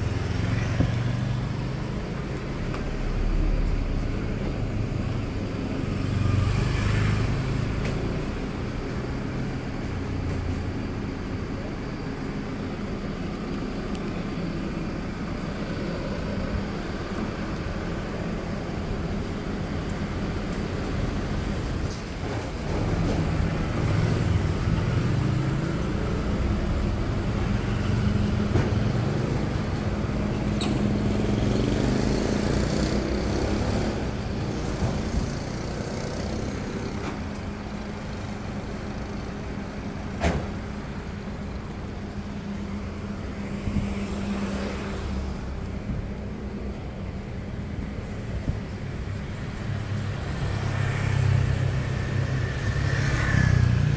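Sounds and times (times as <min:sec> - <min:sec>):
street traffic hum: 0:00.0 - 0:53.9
vehicle engine rumble: 0:00.0 - 0:53.9.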